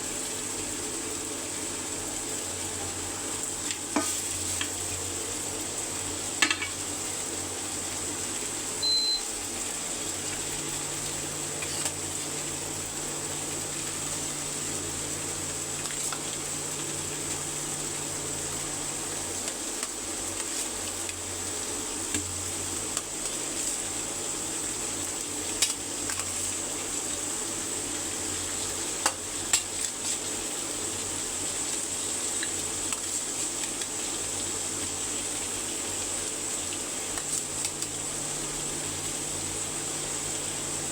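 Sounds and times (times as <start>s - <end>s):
curry sizzling in hot oil: 0.0s - 40.9s.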